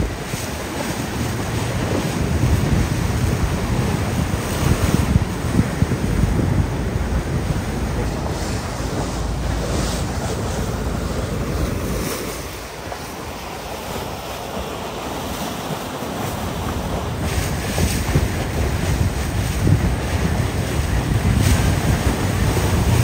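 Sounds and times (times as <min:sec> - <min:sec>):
water rushing past boat: 0:00.0 - 0:23.0
wind buffeting microphone: 0:00.0 - 0:23.0.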